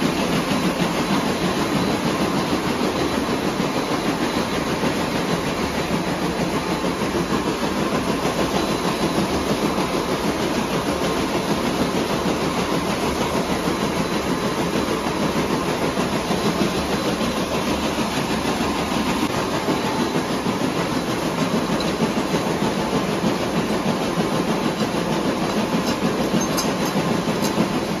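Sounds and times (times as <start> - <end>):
braiding machines clattering: 0.0 - 28.0.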